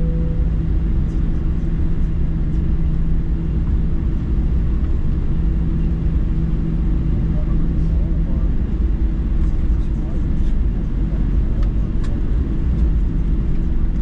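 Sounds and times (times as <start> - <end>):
aircraft cabin rumble and hum: 0.0 - 14.0.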